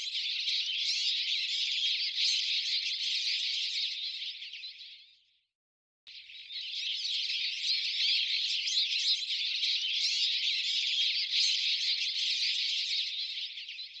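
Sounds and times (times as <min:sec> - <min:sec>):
bird twittering song: 0:00.0 - 0:05.3, 0:06.1 - 0:14.0.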